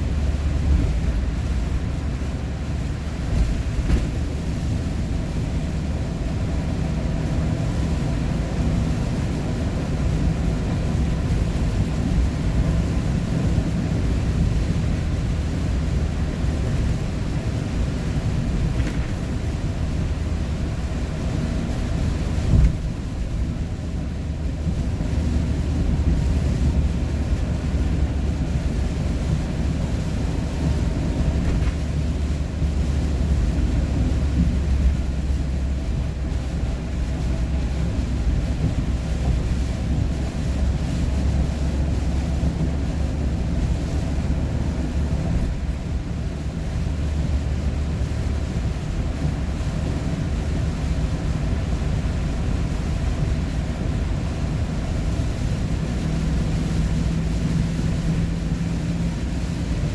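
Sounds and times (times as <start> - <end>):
vehicle cabin road rumble: 0.0 - 59.9.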